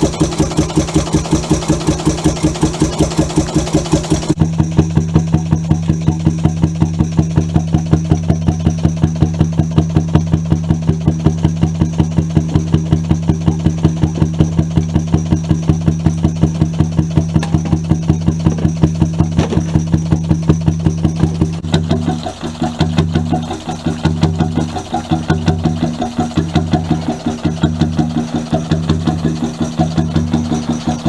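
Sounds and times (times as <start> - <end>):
engine idling with thumping beat: 0.0 - 31.0.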